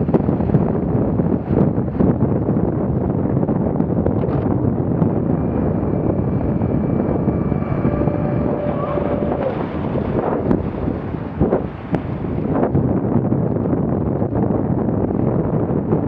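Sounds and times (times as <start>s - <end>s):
outboard motor whine: 0.0s - 14.2s
water splashing along hull: 0.0s - 15.3s
wind buffeting microphone: 0.0s - 16.0s.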